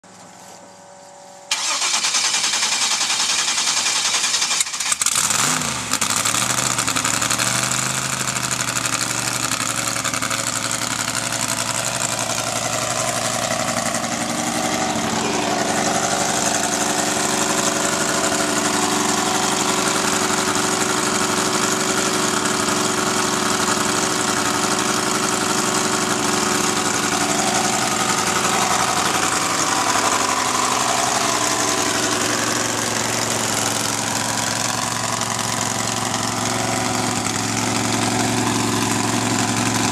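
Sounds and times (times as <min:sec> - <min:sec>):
pickup truck engine running: 0:01.5 - 0:39.9.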